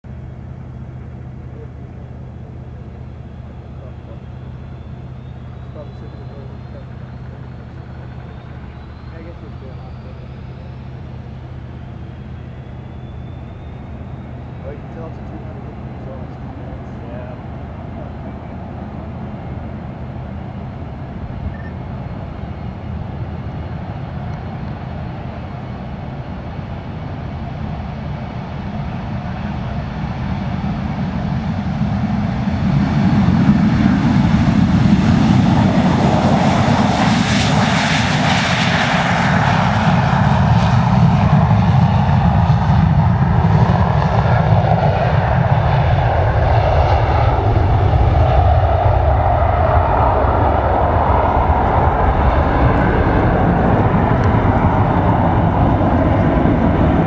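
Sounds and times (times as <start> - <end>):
jet airliner taking off: 0.1 - 57.0.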